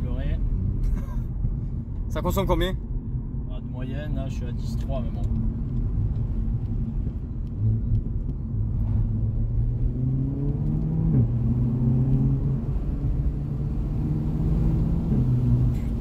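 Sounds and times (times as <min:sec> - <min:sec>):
car engine from inside cabin: 0:00.0 - 0:16.0
road rumble: 0:00.0 - 0:16.0.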